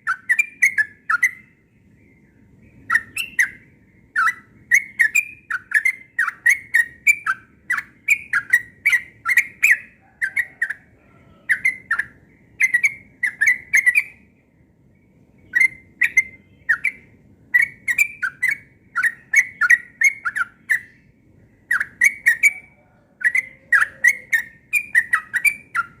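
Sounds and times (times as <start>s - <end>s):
bulbul singing: 0.0s - 26.0s.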